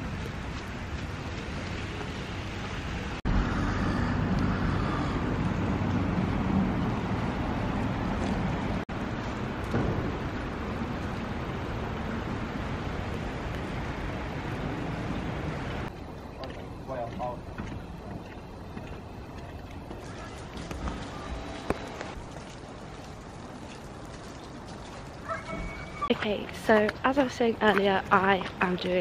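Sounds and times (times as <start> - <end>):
street traffic noise: 0.0 - 29.0.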